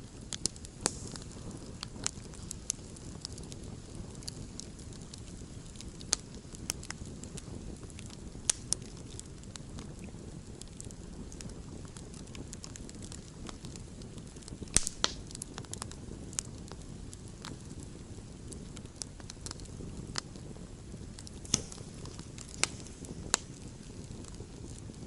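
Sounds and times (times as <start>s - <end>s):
campfire rumbling: 0.0s - 25.0s
fire crackling and popping: 0.0s - 25.0s.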